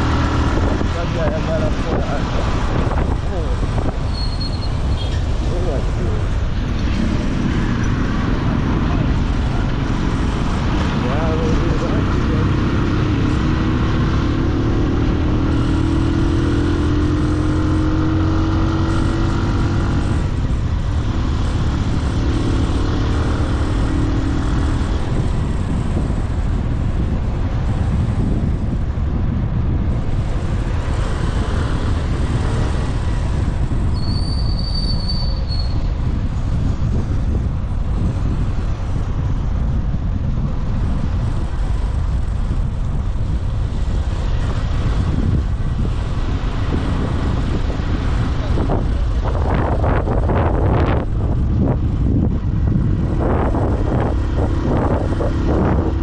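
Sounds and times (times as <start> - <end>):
road and wind rumble: 0.0 - 56.0.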